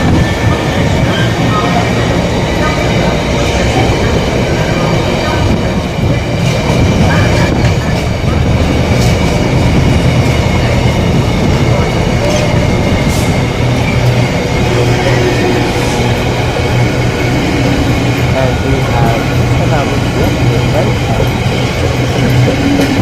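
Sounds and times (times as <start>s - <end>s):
diesel locomotive engine humming: 0.0s - 23.0s
wagons rumbling on rails: 0.0s - 23.0s.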